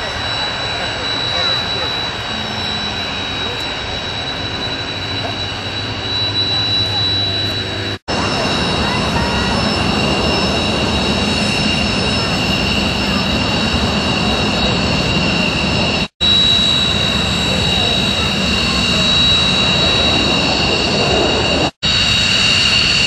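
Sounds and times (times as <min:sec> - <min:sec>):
jet engines whining at idle: 0:00.0 - 0:23.0.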